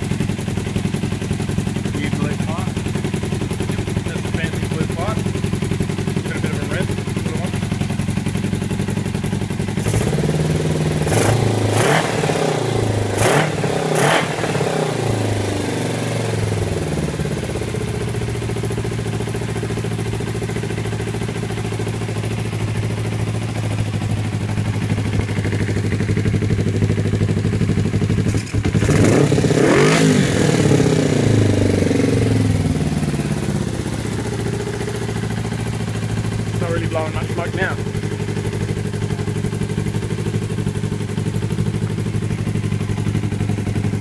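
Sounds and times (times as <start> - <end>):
motorcycle engine revving and idling: 0.0 - 44.0.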